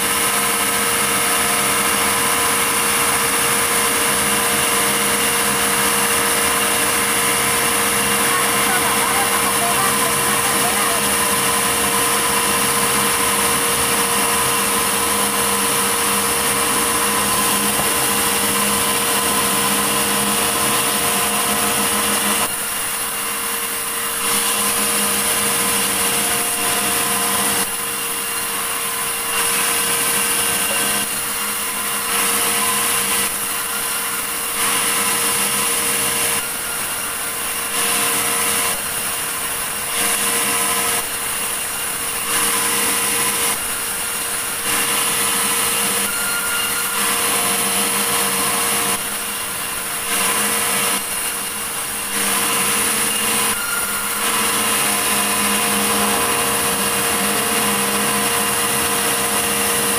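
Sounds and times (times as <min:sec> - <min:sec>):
saw whine: 0:00.0 - 0:59.9
sawmill saw cutting log: 0:00.0 - 0:59.9.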